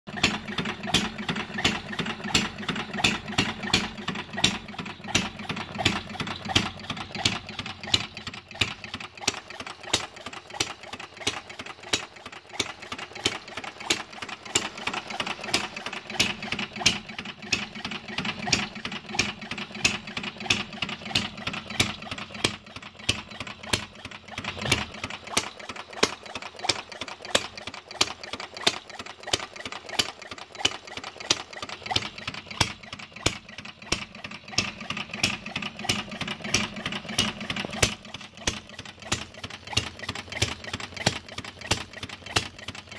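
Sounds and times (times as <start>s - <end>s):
flywheel hum: 0.1s - 42.9s
engine firing pops: 0.2s - 26.8s, 31.9s - 42.8s.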